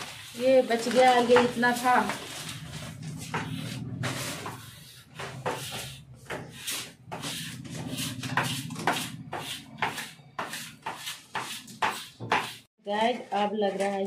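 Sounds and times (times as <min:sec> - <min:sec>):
rubbing and scraping strokes: 0:00.0 - 0:14.0.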